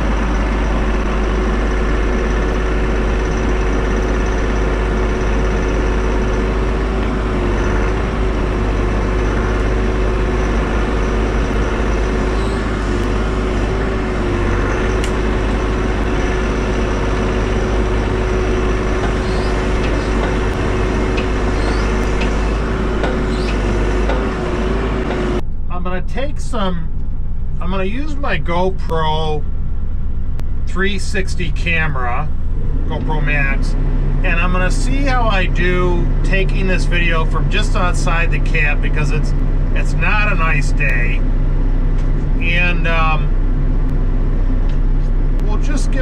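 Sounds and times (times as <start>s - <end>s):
mini excavator diesel engine: 0.0s - 46.0s.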